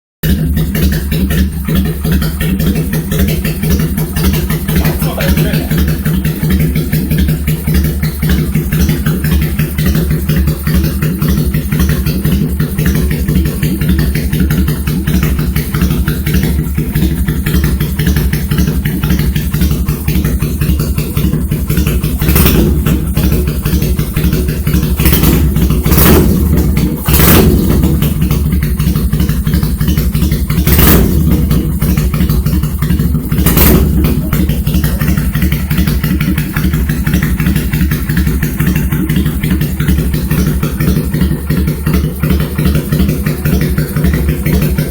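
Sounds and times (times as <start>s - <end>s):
motorcycle engine idling: 0.2s - 44.9s
motorcycle throttle blips: 0.2s - 44.9s.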